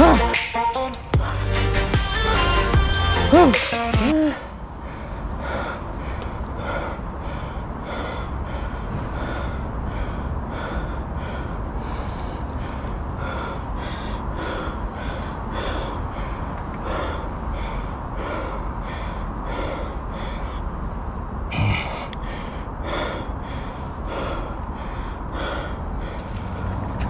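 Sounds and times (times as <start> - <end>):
steady low rumble: 1.1 - 27.0
cyclist breathing hard: 4.0 - 27.0.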